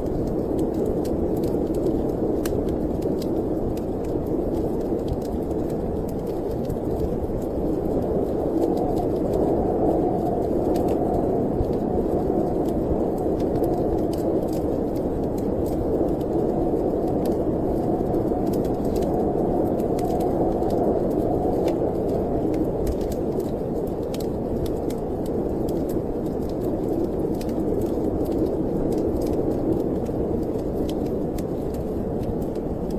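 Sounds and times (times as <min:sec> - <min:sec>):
snowstorm wind blowing: 0:00.0 - 0:32.9
wood fire crackling: 0:00.0 - 0:32.9.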